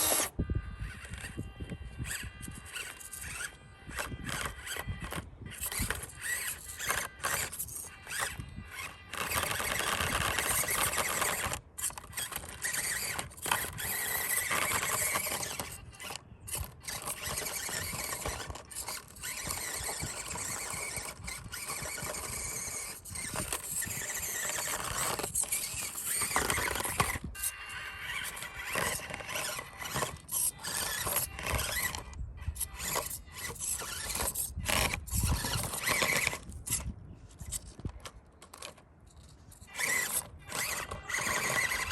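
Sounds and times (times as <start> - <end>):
electric motor whining: 0.0 - 41.9.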